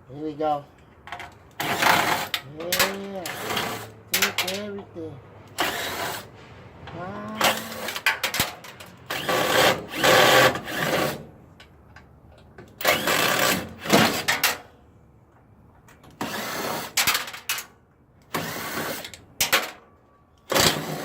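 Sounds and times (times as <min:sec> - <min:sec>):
parts scraping and rattling: 0:00.7 - 0:19.9.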